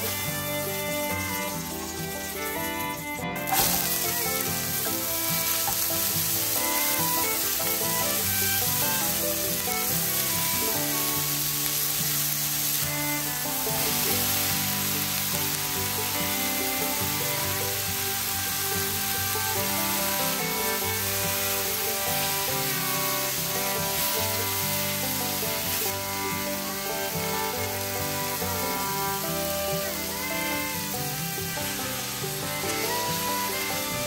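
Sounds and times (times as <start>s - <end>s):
spatula stirring onions: 0.0s - 33.9s
onions sizzling in a frying pan: 0.0s - 34.0s.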